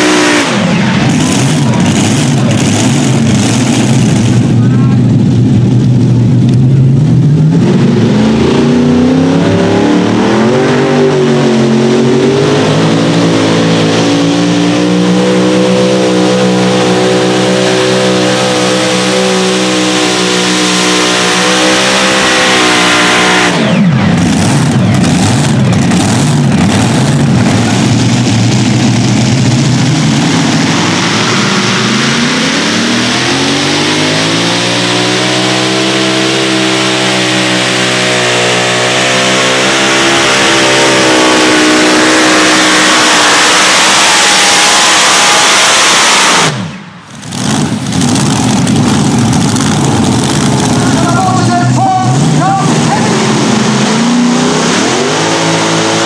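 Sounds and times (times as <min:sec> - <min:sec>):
pulling tractor engines at full throttle: 0:00.0 - 0:56.0.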